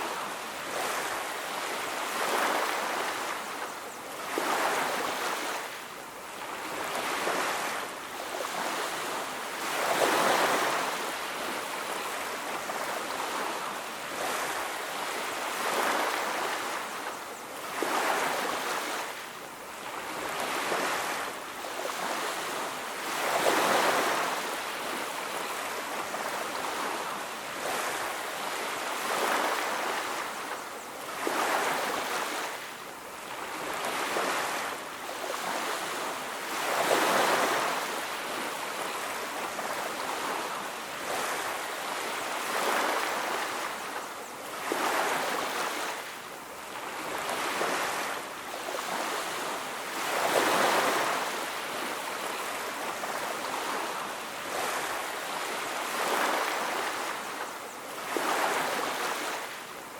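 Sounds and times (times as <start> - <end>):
ocean surf on a beach: 0.0 - 59.9.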